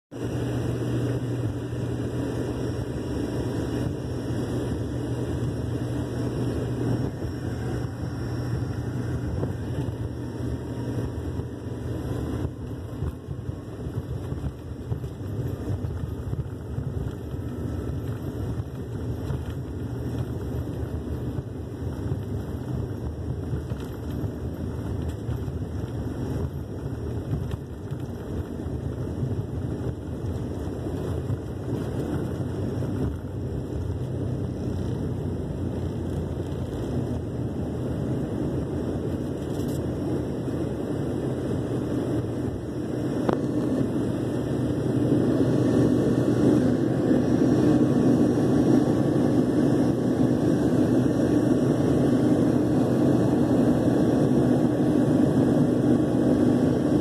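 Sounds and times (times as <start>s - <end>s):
jet engines humming: 0.1s - 57.0s.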